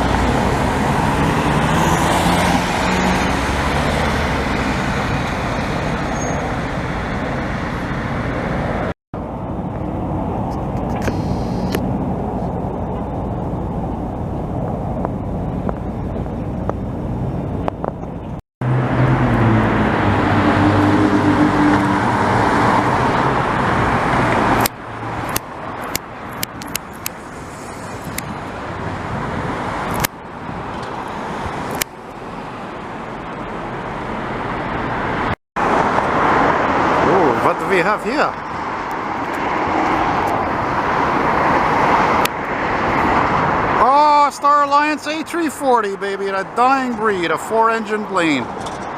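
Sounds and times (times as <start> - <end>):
louder engine passing: 0.0 - 15.3, 18.6 - 30.0, 32.4 - 44.9
outdoor traffic noise: 0.0 - 48.9.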